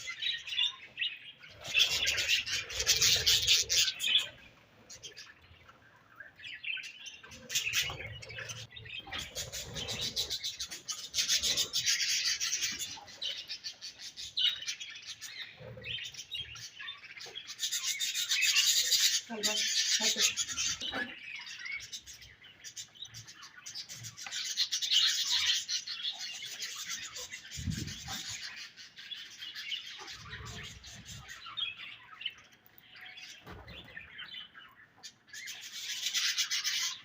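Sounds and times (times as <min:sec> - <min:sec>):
budgerigars chattering and chirping: 0:00.0 - 0:37.0.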